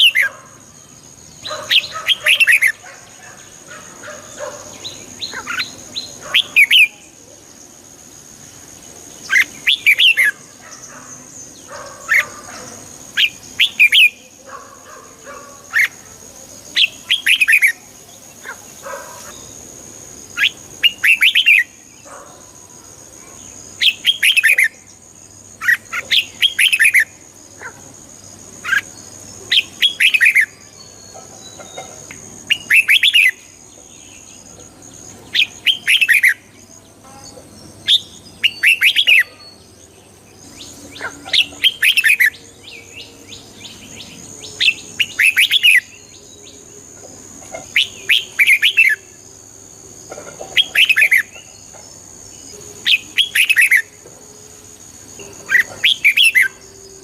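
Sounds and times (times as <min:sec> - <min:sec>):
bird singing warbled phrases: 0:00.0 - 0:54.0, 0:55.0 - 0:57.0.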